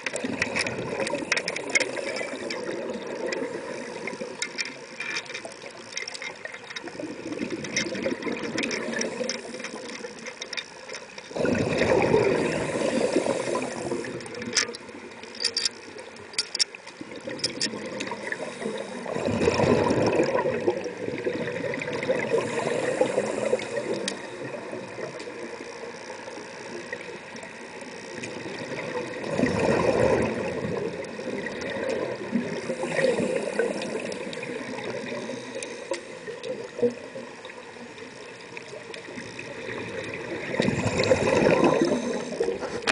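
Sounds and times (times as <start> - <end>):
underwater exhaled bubbles: 0.0 - 10.6, 11.2 - 15.3, 15.9 - 42.9.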